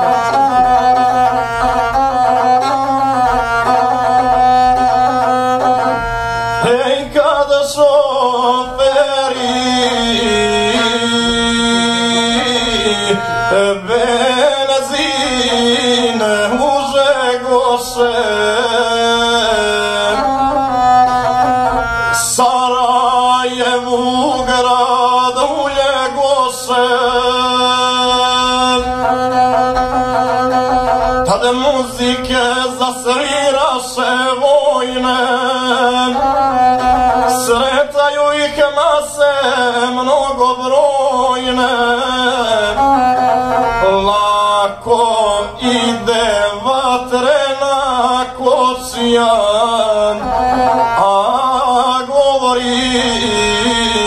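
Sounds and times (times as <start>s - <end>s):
bowed fiddle melody: 0.0s - 54.0s.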